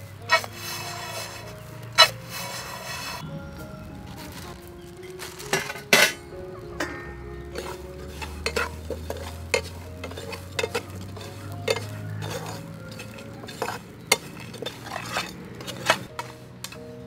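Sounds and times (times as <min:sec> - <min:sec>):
metal spatula scraping a pan: 0:00.0 - 0:03.2, 0:05.2 - 0:16.9.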